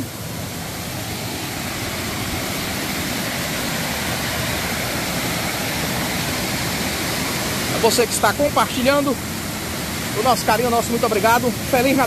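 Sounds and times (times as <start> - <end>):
waterfall cascading over rocks: 0.0 - 12.0.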